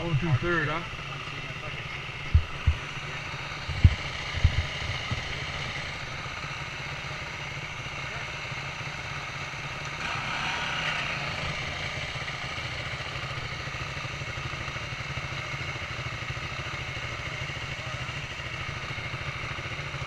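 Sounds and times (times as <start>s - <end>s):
dirt bike engines idling: 0.0s - 20.0s.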